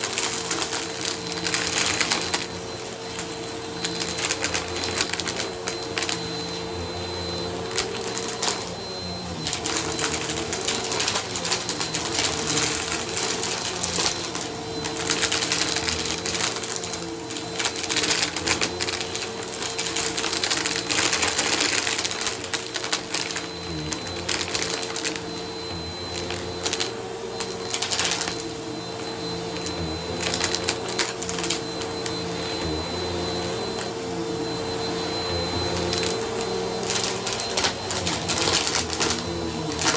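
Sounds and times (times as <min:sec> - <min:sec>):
grit crackling in vacuum: 0:00.0 - 0:39.9
vacuum cleaner motor humming: 0:00.0 - 0:39.9.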